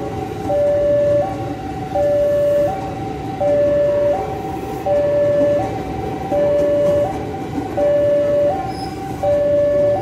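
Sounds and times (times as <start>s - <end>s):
electric train rumbling past: 0.0s - 10.0s
level crossing two-tone alarm: 0.5s - 7.2s, 7.8s - 10.0s.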